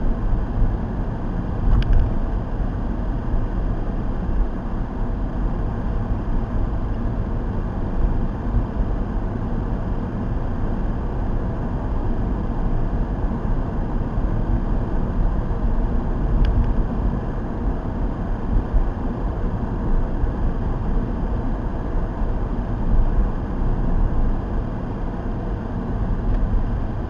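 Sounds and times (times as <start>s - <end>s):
car cabin road noise: 0.0s - 27.0s.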